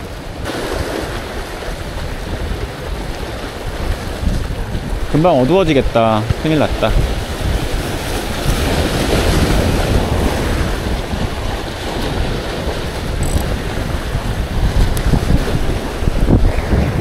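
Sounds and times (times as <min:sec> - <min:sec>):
sea surf washing over concrete: 0:00.0 - 0:17.0
wind buffeting microphone: 0:00.0 - 0:17.0.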